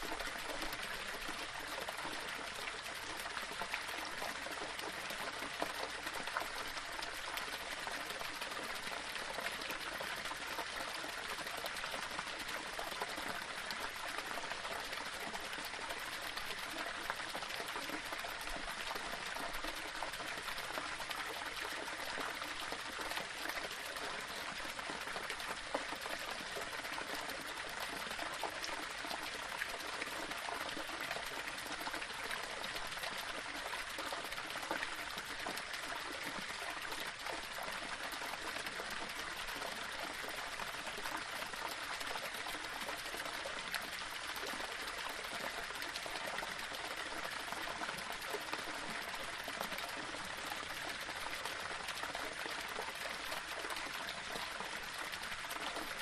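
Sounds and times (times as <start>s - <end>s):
waterfall over rocks: 0.0s - 56.0s.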